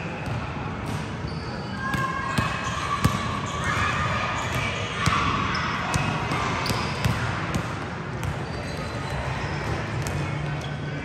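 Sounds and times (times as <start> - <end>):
basketballs bouncing on gym floor: 0.2 - 10.3.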